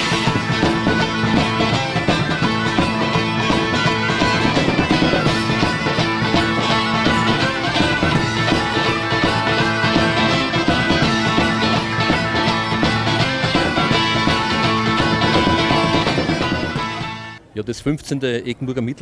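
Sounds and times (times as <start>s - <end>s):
bagpipes over a drone: 0.0s - 17.4s
drums: 0.0s - 17.4s
guitar: 0.0s - 17.4s.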